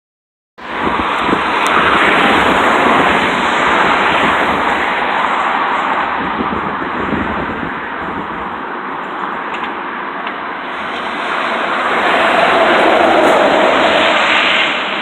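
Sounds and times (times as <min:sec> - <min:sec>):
combine harvester running: 0:00.6 - 0:15.0.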